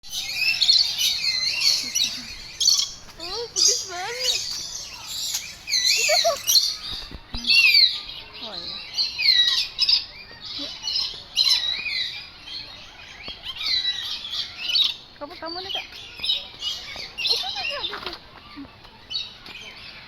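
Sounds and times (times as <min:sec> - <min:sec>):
birds chorus chirping: 0:00.0 - 0:20.0.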